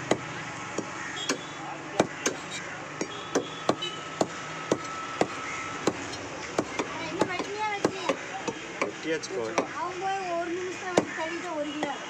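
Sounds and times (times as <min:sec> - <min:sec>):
cleaver chopping meat on wood: 0:00.0 - 0:09.8, 0:10.9 - 0:11.2.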